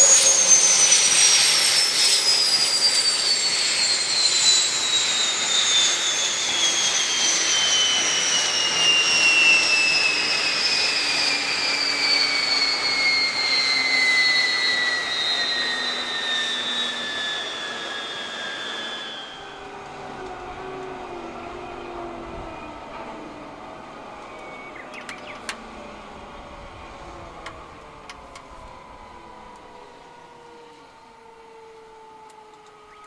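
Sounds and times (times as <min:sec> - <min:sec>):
turbine whine winding down: 0:00.0 - 0:33.0.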